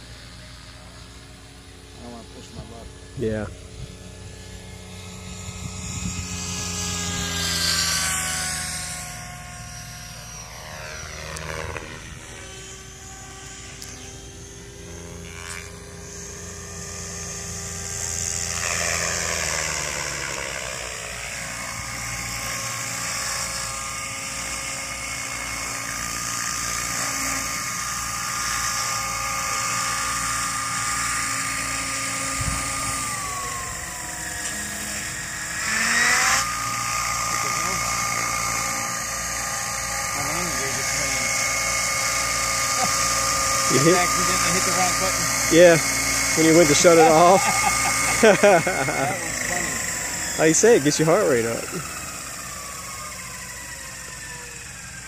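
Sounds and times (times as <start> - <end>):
model helicopter rotor whine: 0.0 - 55.0.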